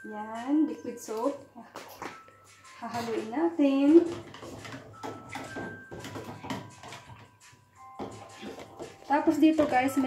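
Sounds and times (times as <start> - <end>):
metal spoon stirring in plastic jug: 1.8 - 10.0.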